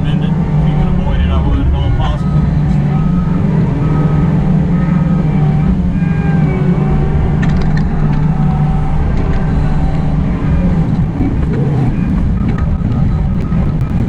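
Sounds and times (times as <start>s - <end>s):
excavator diesel engine: 0.0s - 14.0s
whining tones: 0.0s - 14.0s.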